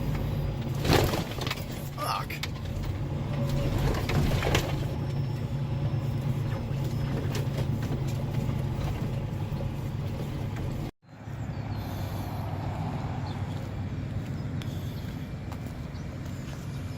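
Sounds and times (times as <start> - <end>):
diesel truck engine droning: 0.0 - 16.9.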